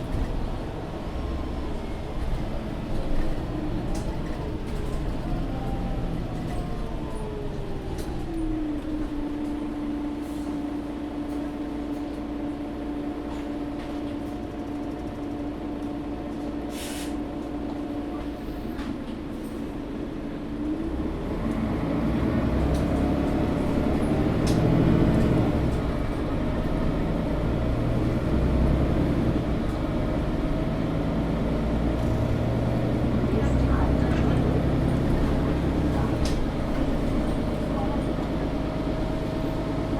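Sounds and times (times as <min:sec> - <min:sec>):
bus engine hum: 0:00.0 - 0:39.9.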